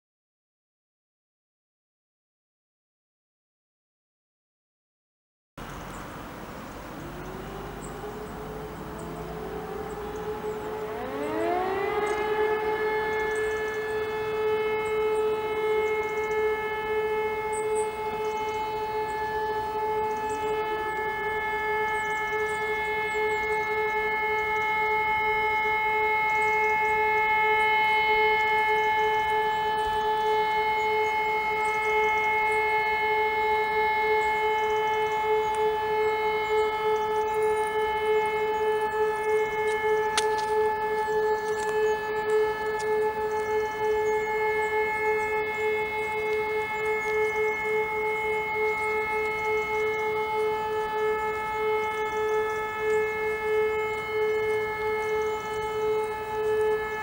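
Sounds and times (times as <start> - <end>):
distant sirens: 5.6 - 57.0.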